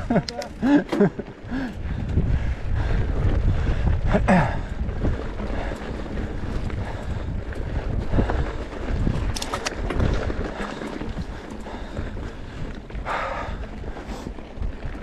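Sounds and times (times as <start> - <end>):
bike rattling over ground: 0.0 - 15.0
wind buffeting microphone: 0.0 - 15.0.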